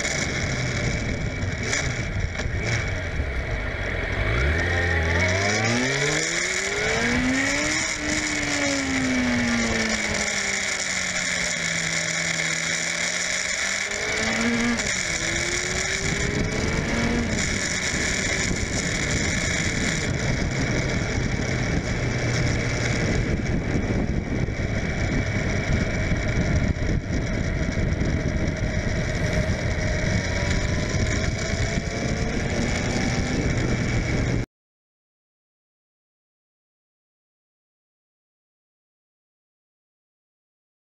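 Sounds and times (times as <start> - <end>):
motorcycle engine accelerating: 0.0 - 34.5
wind and road noise: 0.0 - 34.5.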